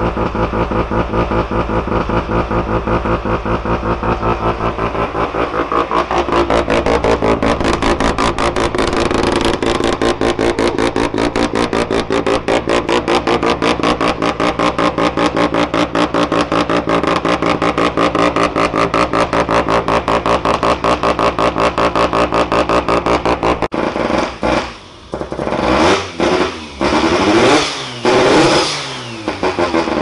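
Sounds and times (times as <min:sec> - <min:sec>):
rotary engine idling: 0:00.0 - 0:27.3
engine rev blip: 0:00.0 - 0:30.0.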